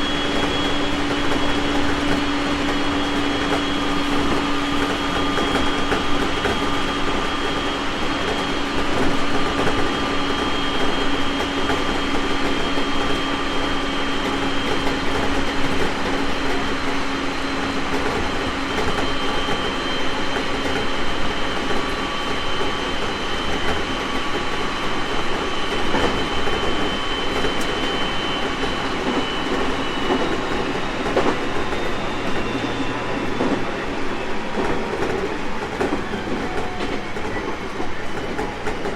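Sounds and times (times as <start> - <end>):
train high whine: 0.0 - 38.9
wheels rumbling on rail: 0.0 - 38.9
rail-joint clicks: 0.1 - 38.9.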